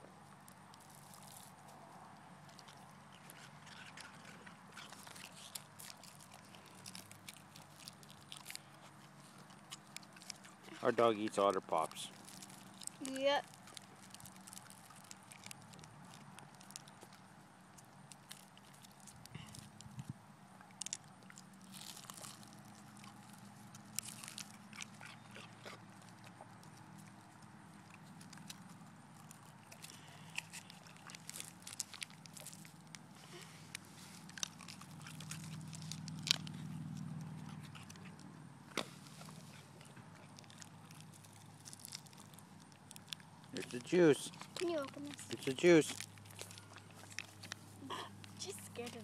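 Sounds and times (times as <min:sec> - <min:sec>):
dog crunching ice: 0:00.0 - 0:49.0.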